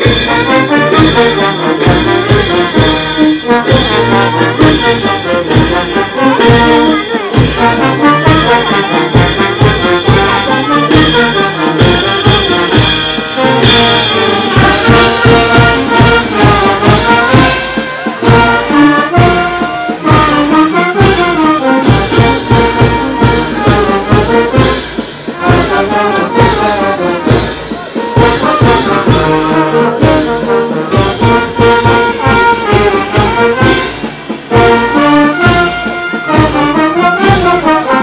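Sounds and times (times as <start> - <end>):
steady beat: 0.0 - 37.8
brass band with trumpets: 0.0 - 38.0.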